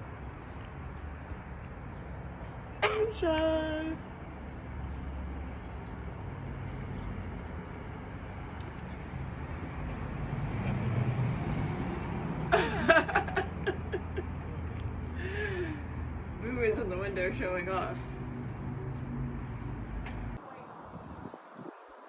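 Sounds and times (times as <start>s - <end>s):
motor vehicle passing: 0.0s - 22.0s.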